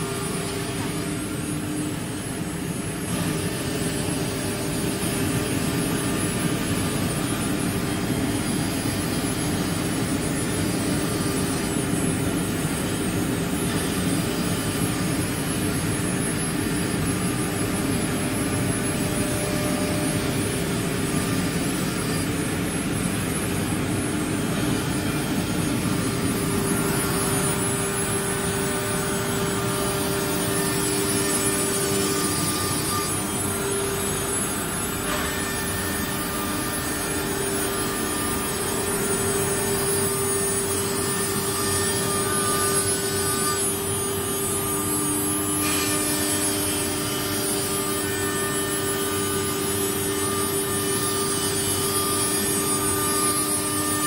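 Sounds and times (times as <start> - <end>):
machine noise: 0.0 - 54.0
router spindle whine: 0.0 - 54.0.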